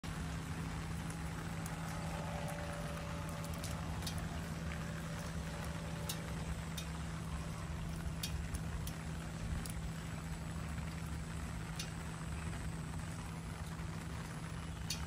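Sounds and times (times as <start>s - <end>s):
low hum: 0.0s - 15.0s
raindrops ticking on surfaces: 0.0s - 15.0s
steady rainfall: 0.0s - 15.0s.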